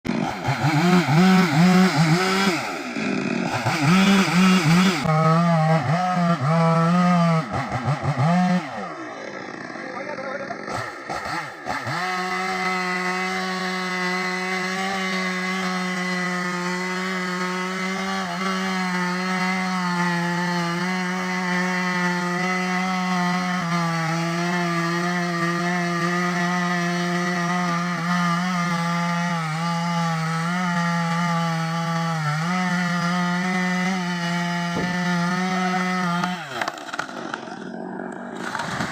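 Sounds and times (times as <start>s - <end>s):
chainsaw cutting wood: 0.1s - 38.9s.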